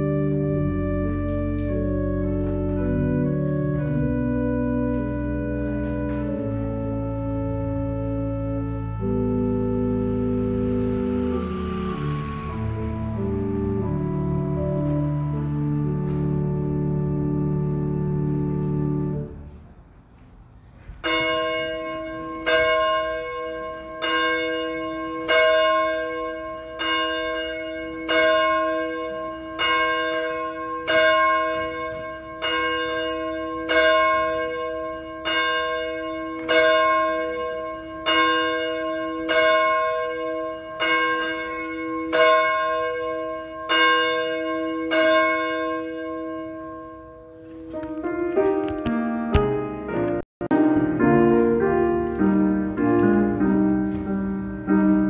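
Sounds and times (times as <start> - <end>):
church bell tolling: 0.0 - 19.6, 21.0 - 55.0
held music chord: 0.0 - 20.0, 21.0 - 55.0.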